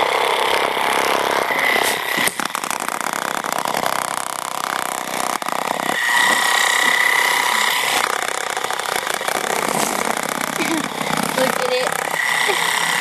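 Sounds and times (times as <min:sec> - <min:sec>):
high steady whine: 0:00.0 - 0:13.0
toy buzzing and rattling: 0:00.0 - 0:13.0.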